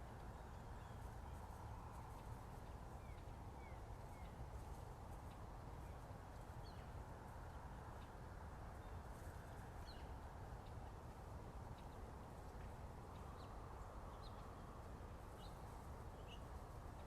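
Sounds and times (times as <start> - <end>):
background hiss and rumble: 0.0 - 17.0.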